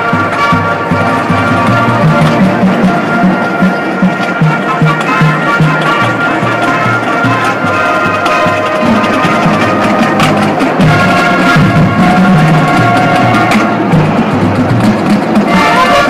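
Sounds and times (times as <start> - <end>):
brass playing sustained chords: 0.0 - 16.0
drumline percussion: 0.0 - 16.0.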